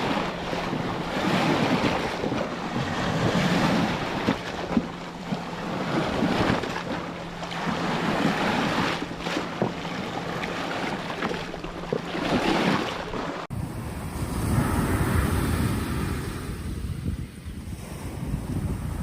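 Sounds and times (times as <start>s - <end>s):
ocean waves breaking: 0.0s - 19.0s
wind buffeting microphone: 0.0s - 19.0s.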